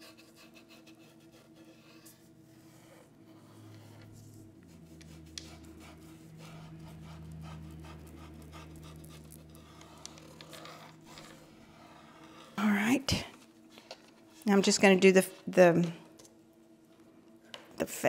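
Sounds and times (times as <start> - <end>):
paintbrush scratching on wood: 0.0 - 15.8
low steady hum: 0.0 - 18.0.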